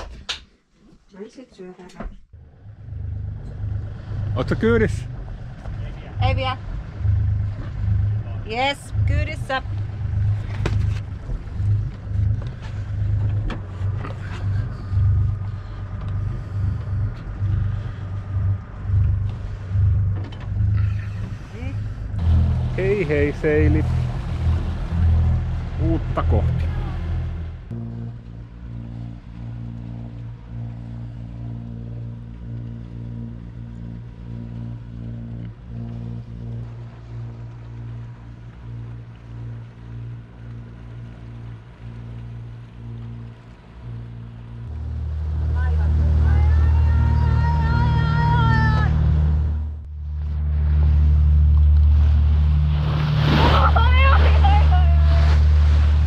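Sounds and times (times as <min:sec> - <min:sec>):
boat engine rumbling: 0:02.2 - 0:56.0.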